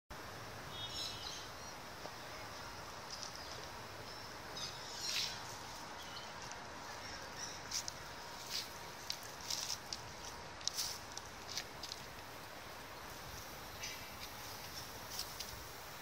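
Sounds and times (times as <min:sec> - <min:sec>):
faint outdoor ambience: 0:00.1 - 0:16.0.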